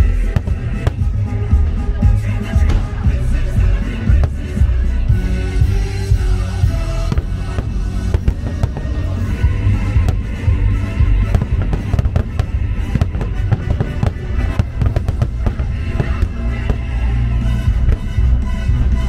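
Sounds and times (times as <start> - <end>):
fireworks bangs and crackles: 0.0 - 19.0
loud show music: 0.0 - 19.0.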